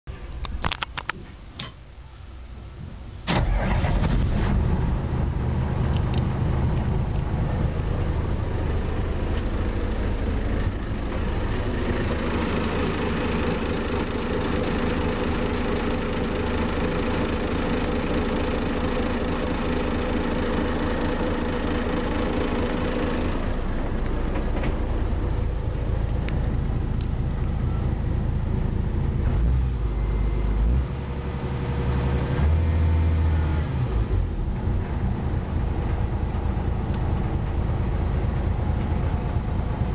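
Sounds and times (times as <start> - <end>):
diesel engine starting and idling: 1.6 - 39.9.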